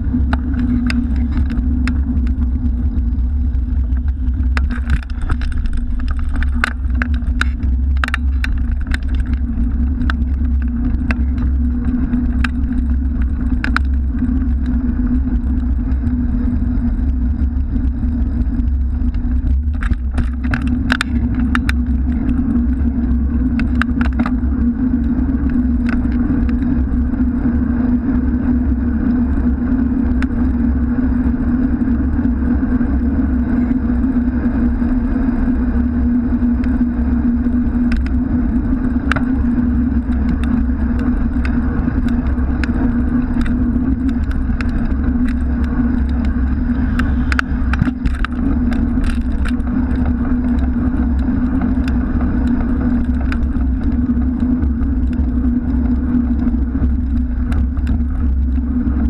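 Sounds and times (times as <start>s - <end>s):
low hum: 0.0s - 59.0s
road traffic: 0.0s - 59.0s
wind and road noise: 0.0s - 59.0s.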